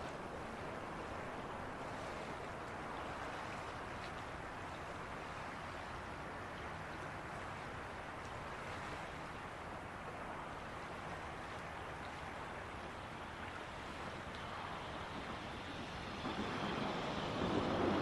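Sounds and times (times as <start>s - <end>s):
outdoor hiss and rumble: 0.0s - 18.0s.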